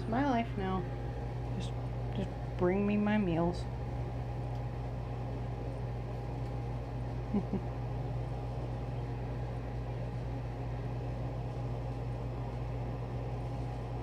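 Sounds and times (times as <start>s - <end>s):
low machinery hum with hiss: 0.0s - 14.0s.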